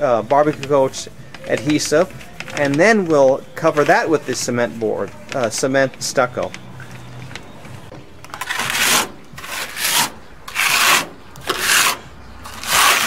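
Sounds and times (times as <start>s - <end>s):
trowel scraping stucco: 0.0s - 6.6s, 8.3s - 13.0s.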